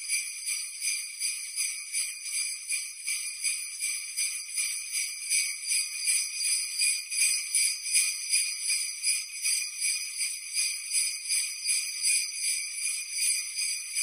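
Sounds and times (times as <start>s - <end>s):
sleigh bells jingling: 0.0s - 14.0s.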